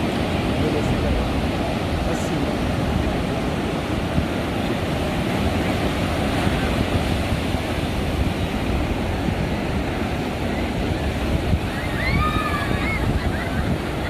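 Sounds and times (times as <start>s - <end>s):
surf breaking on a beach: 0.0s - 14.0s
wind buffeting the microphone: 0.0s - 14.0s.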